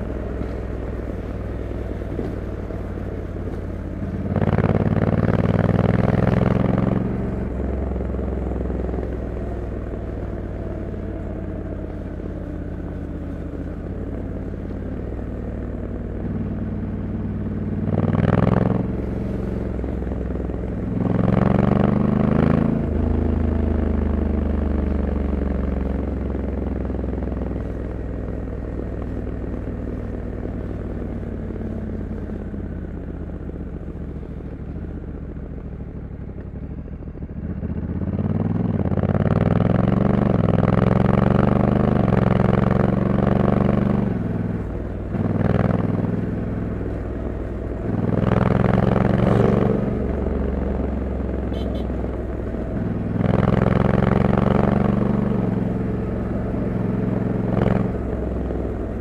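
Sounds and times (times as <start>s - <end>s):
motorcycle engine revving: 0.0s - 27.7s, 29.0s - 59.0s.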